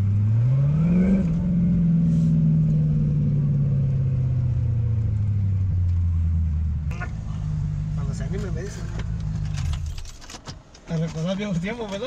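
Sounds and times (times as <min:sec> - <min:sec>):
car engine heard from inside: 0:00.0 - 0:10.3.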